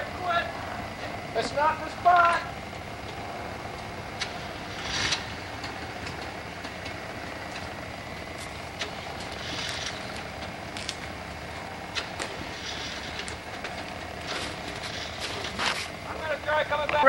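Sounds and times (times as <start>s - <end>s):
jeep engine running low revs: 0.0s - 17.0s.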